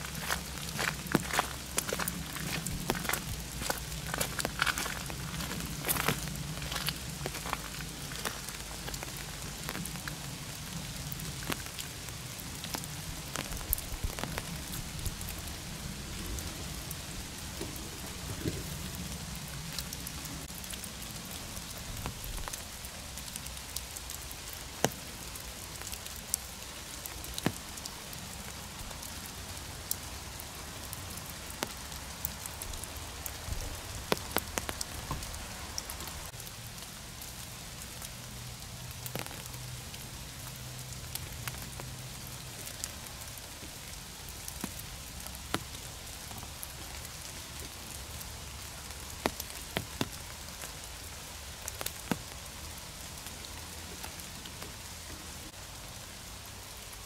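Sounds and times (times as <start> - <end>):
rain falling in forest: 0.0 - 57.0.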